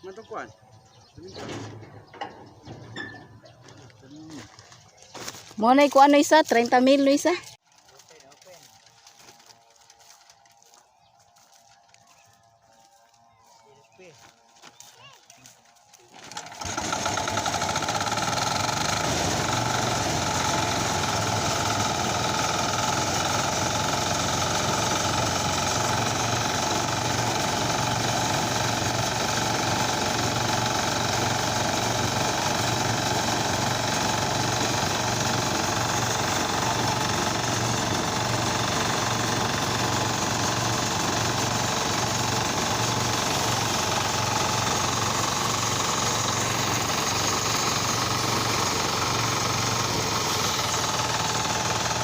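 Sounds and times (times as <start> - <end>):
small engine running: 0.0 - 52.0.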